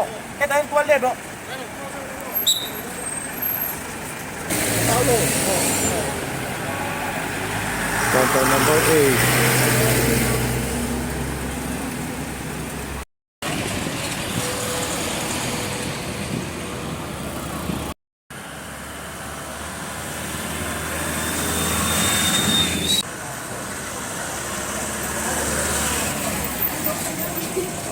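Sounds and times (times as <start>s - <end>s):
road traffic noise: 0.0s - 27.9s.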